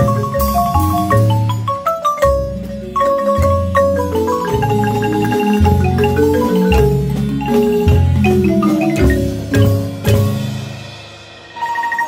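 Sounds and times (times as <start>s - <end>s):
double bass notes: 0.0s - 11.4s
marimba ensemble playing: 0.0s - 12.0s.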